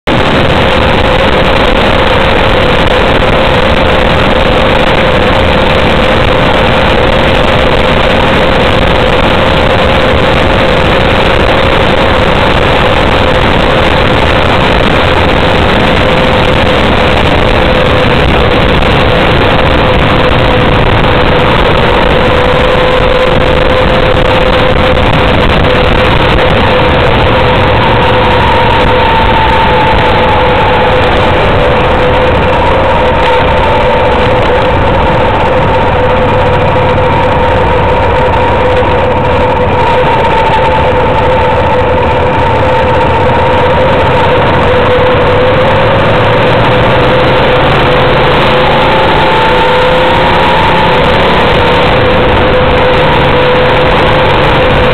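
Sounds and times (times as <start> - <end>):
motorcycle engine: 0.0 - 54.9
steady hum: 0.0 - 54.9
wind rushing over microphone: 0.0 - 54.9.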